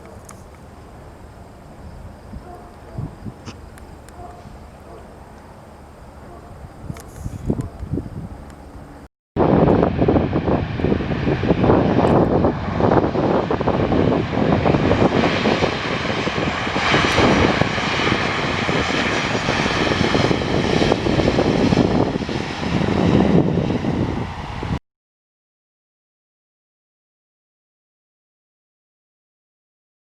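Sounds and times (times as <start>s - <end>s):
high-pitched jet roar: 0.0s - 24.8s
jet engines rumbling: 0.0s - 24.8s.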